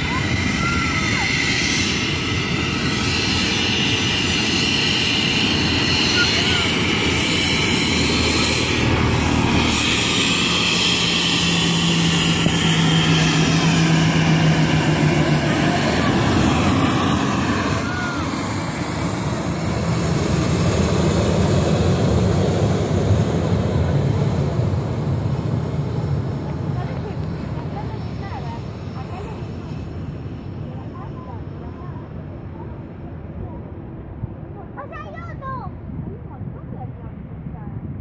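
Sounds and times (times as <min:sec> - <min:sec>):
jet engine roar with fan whine: 0:00.0 - 0:38.0.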